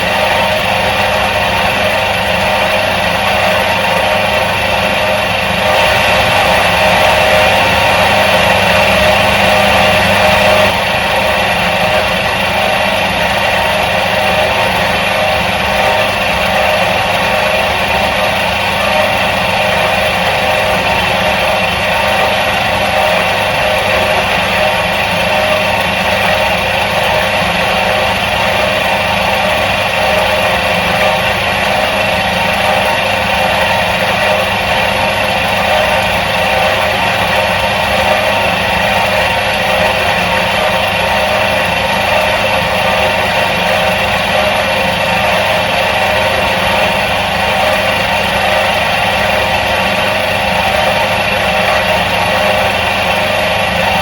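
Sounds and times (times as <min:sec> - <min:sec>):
washing machine motor humming: 0:00.0 - 0:54.0.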